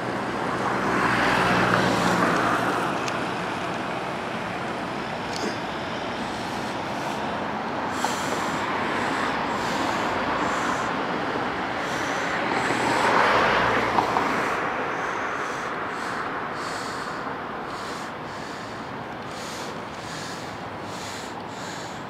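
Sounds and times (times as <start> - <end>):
passing vehicle road noise: 0.0 - 22.0.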